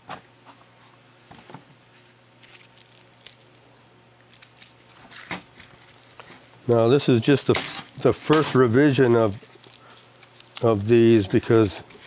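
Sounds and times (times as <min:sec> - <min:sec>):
steady low hum: 0:00.0 - 0:12.0
plastic packaging rustling: 0:02.0 - 0:12.0.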